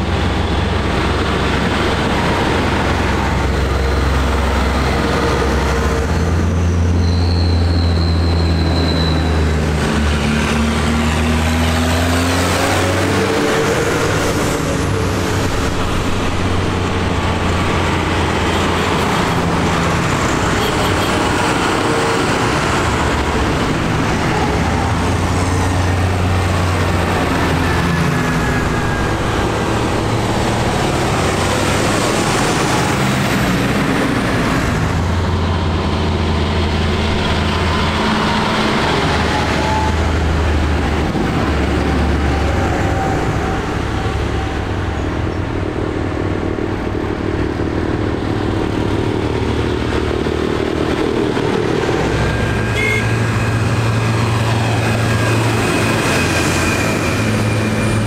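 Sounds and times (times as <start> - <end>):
diesel tractors driving past: 0.0 - 58.0.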